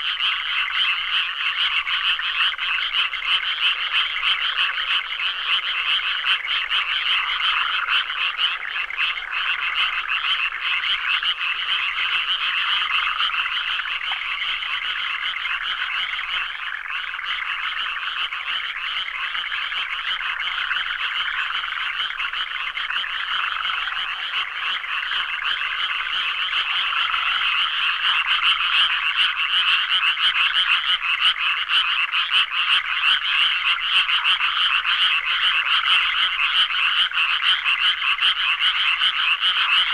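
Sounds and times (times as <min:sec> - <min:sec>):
frogs croaking chorus: 0:00.0 - 0:39.9.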